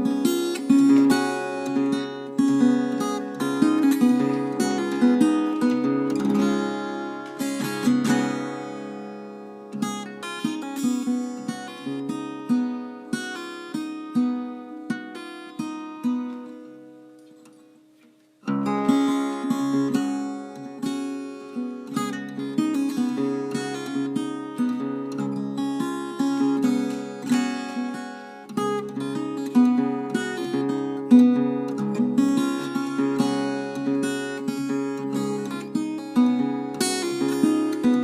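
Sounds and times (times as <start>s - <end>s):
acoustic guitar music: 0.0s - 38.0s.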